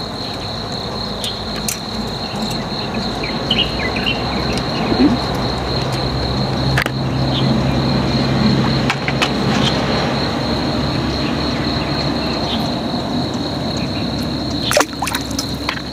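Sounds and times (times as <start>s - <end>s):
cricket trilling: 0.0s - 15.9s.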